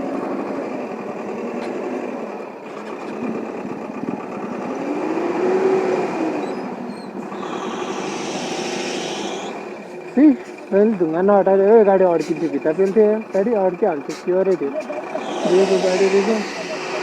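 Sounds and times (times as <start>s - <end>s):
engine revving: 0.0s - 17.0s
vehicle engines running: 0.0s - 17.0s.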